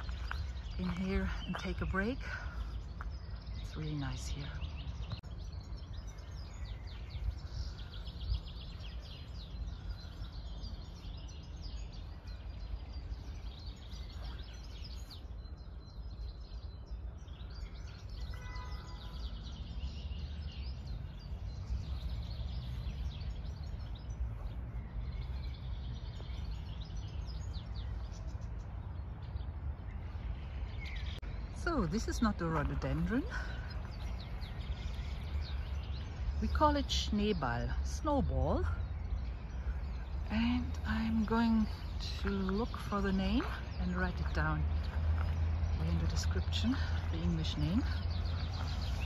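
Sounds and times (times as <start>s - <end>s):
songbirds singing and chirping: 0.0s - 49.0s.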